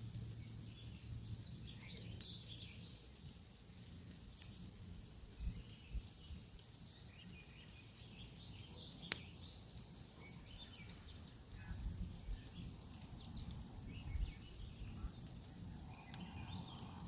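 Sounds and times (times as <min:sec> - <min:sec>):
campfire crackling and popping: 0:00.0 - 0:17.0
small birds chirping: 0:00.0 - 0:17.0.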